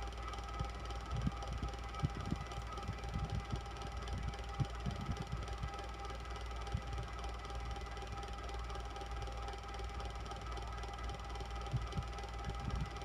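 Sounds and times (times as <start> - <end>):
electric fan whirring: 0.0 - 13.0.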